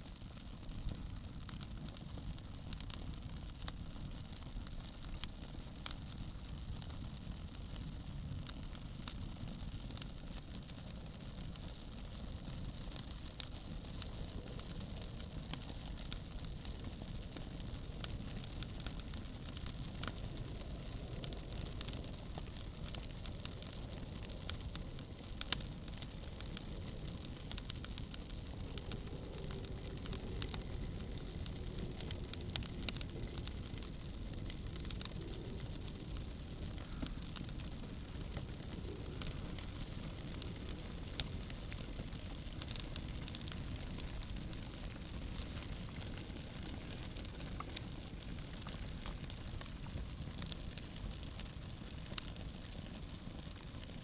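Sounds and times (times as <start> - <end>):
bonfire crackling and popping: 0.0 - 54.0
low rumble of fire: 0.0 - 54.0.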